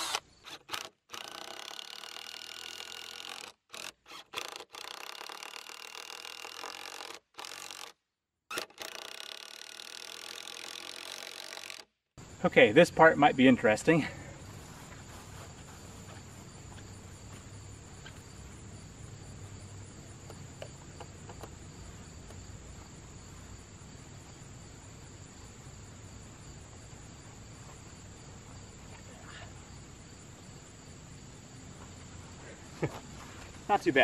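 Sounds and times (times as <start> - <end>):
insects chirring: 0.0 - 7.9, 8.5 - 34.0.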